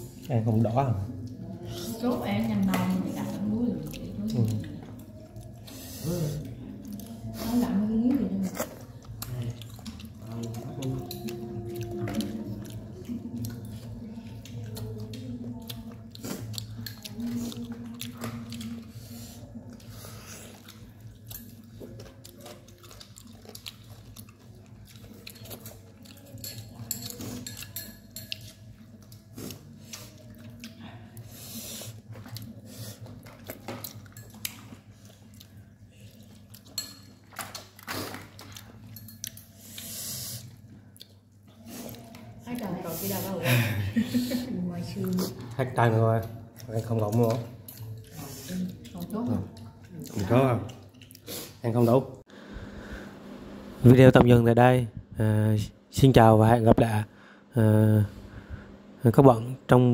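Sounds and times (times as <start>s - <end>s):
chewing: 0.1s - 43.3s, 44.8s - 51.6s.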